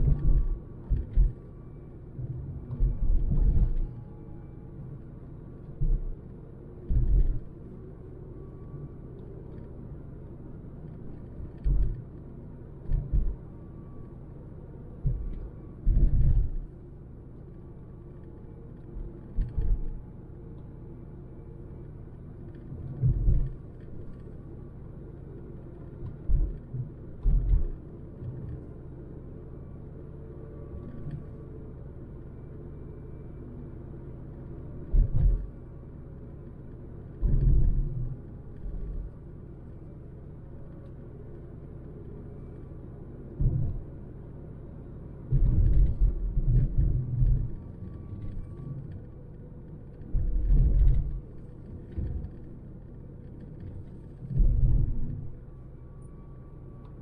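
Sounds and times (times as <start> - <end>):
car engine and road rumble: 0.0 - 57.0
faint steady hum: 0.0 - 57.0.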